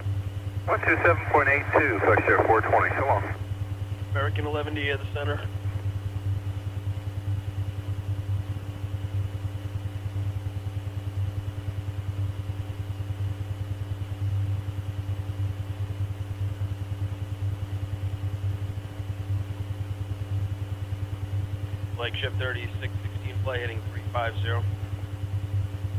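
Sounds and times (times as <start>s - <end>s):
low electrical hum with pulsing: 0.0s - 25.9s.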